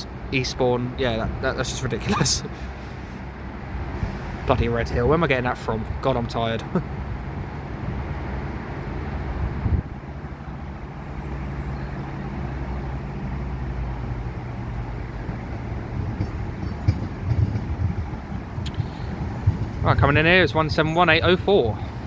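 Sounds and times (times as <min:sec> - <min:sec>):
train diesel engines rumbling: 0:00.0 - 0:22.0.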